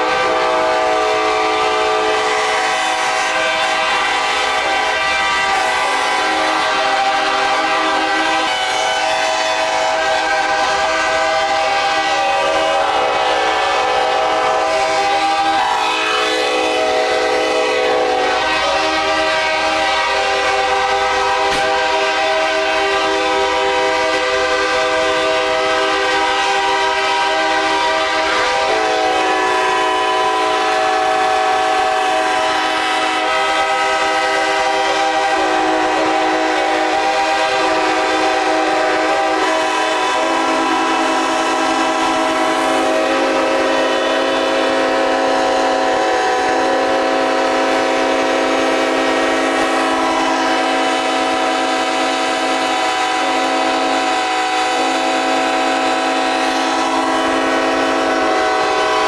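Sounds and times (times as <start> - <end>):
locomotive air horns blowing: 0.0 - 59.0.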